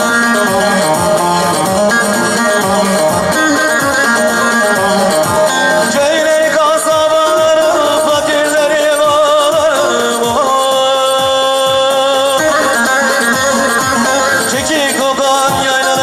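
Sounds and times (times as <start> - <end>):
folk dance tune played live: 0.0 - 16.0
steady beat: 0.0 - 16.0
wavering held melody line: 0.0 - 16.0.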